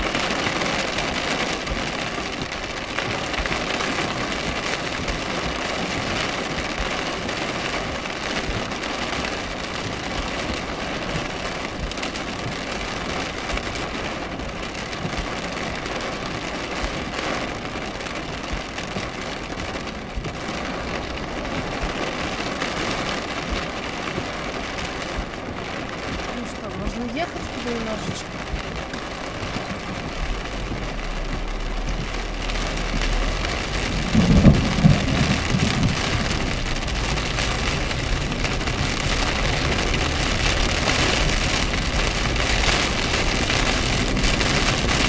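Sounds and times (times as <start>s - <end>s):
car road noise: 0.0s - 45.0s
rain on car roof: 0.0s - 45.0s.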